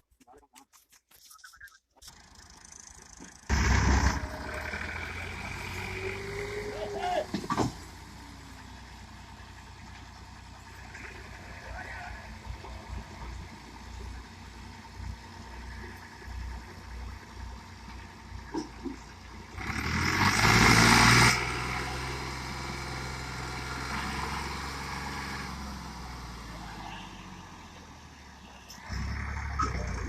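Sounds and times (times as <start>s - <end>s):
tractor engine running: 0.0s - 26.6s, 27.8s - 30.0s.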